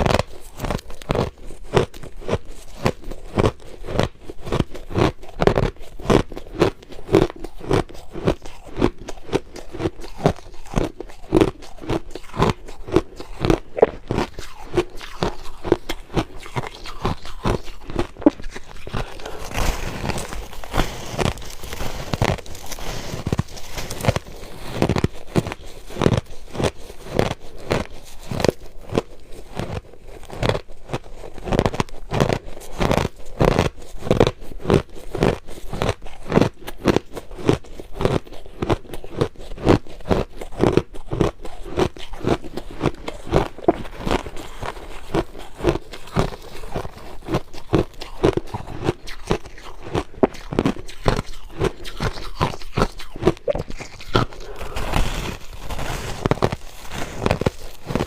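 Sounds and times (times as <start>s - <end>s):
crushed ice being chewed: 0.0s - 58.0s.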